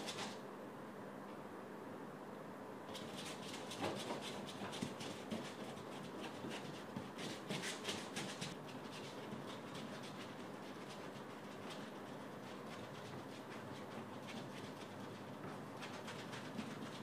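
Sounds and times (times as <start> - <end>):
paintbrush scrubbing canvas: 2.9 - 17.0.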